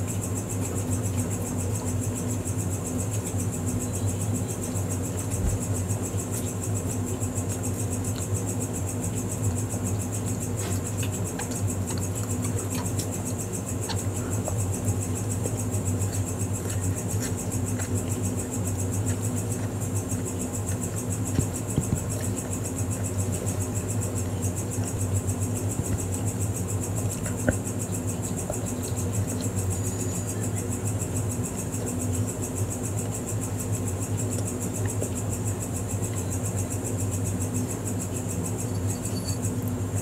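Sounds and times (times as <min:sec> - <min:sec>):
chewing bread: 0:00.0 - 0:38.9
low hum with high hiss: 0:00.0 - 0:40.0.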